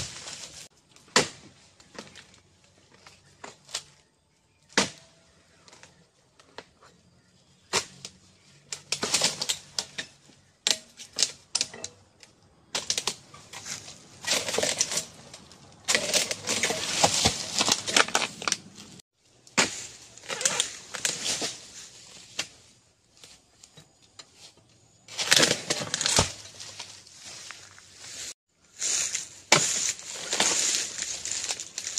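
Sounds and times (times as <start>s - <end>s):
dry vegetation rustling and crackling: 0.0s - 31.9s.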